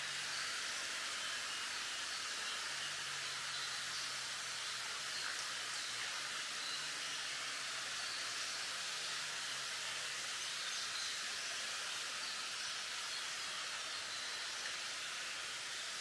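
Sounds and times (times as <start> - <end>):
wind rustling bamboo leaves: 0.0 - 16.0.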